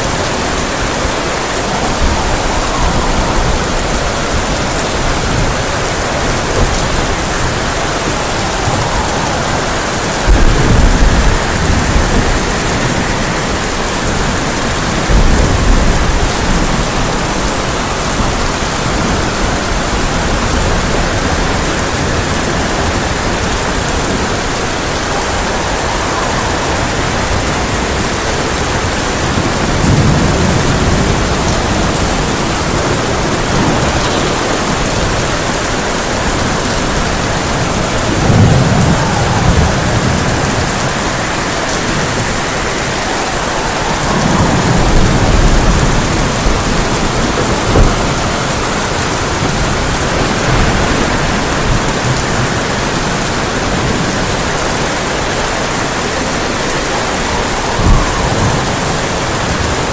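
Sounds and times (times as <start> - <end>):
heavy rain on a tin roof: 0.0 - 59.9
thunder rumbling: 0.0 - 59.9.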